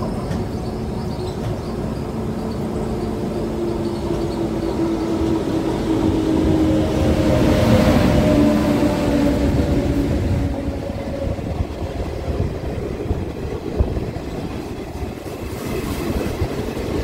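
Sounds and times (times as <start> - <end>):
train wheels clattering on rails: 0.0 - 17.0.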